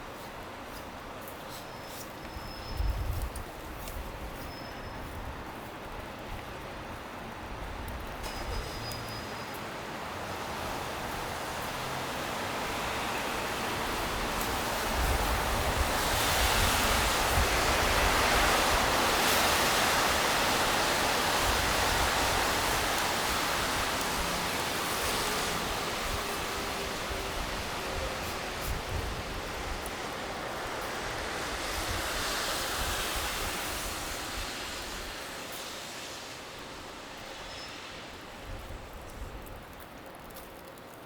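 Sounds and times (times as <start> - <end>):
tyres hissing on wet street: 0.0 - 41.0.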